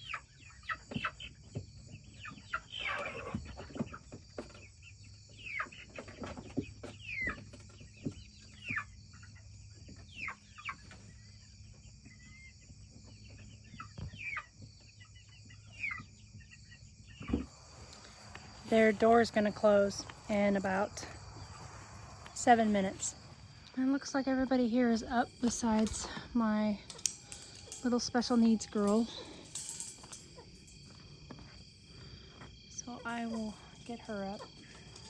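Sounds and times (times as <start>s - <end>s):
insects trilling: 0.0s - 35.0s
young chickens clucking and chirping: 0.0s - 35.0s.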